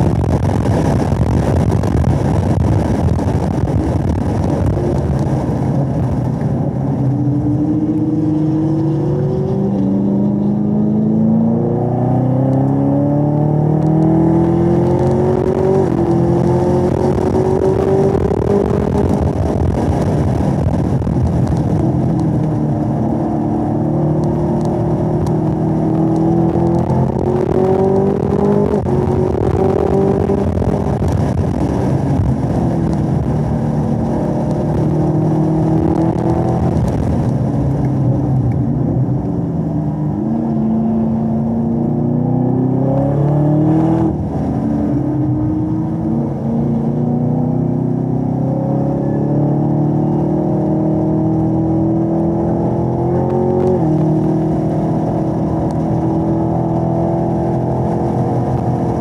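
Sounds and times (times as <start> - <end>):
car engine revving at high revs: 0.0 - 59.0.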